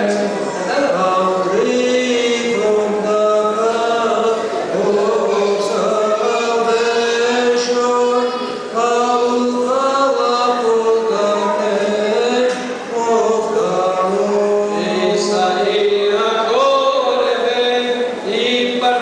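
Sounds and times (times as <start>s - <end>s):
liturgical chanting: 0.0s - 19.0s.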